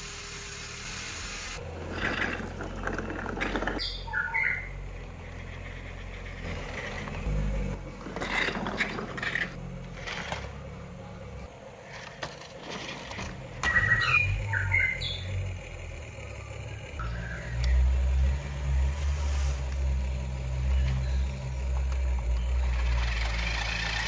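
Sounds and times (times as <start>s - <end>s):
hydraulic pump motor humming: 0.0s - 18.7s, 19.6s - 24.0s.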